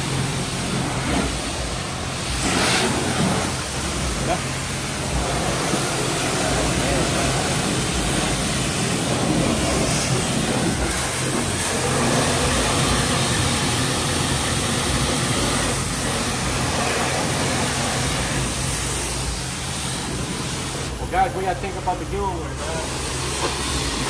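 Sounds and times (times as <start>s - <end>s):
pressure washer spraying water: 0.0s - 24.0s.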